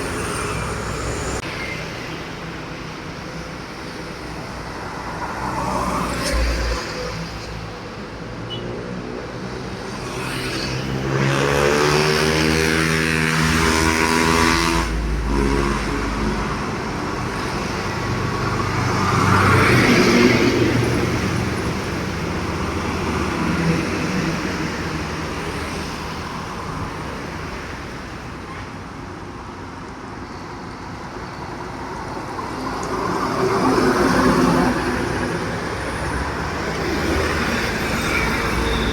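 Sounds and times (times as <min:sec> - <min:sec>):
dump trucks passing: 0:00.0 - 0:38.9.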